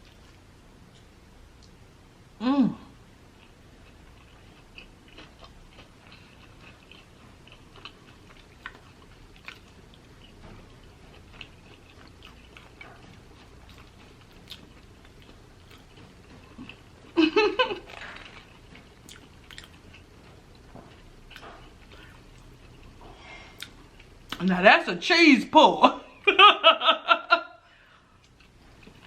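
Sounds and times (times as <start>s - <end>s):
chewing and crunching: 0.0s - 1.8s, 3.3s - 24.4s, 27.9s - 29.0s.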